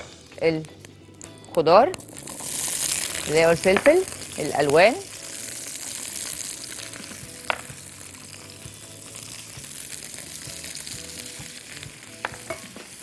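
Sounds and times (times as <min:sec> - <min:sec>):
peppers sizzling in hot oil: 0:00.0 - 0:13.0.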